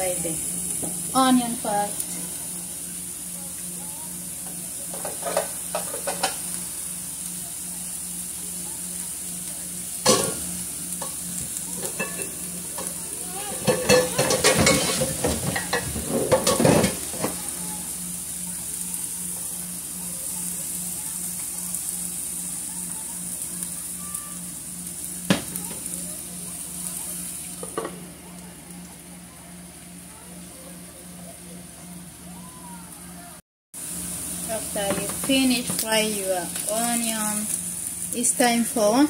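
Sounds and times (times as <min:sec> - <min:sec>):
onions sizzling in oil: 0:00.0 - 0:32.9, 0:33.7 - 0:39.0.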